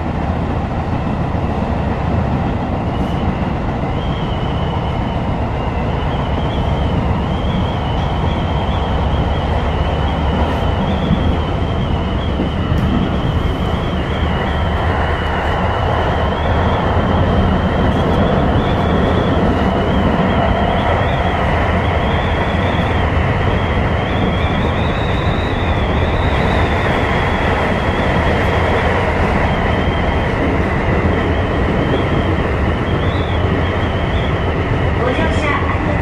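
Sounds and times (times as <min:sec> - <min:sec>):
train wheels rumbling: 0:00.0 - 0:36.0
high wavering whine: 0:02.6 - 0:36.0.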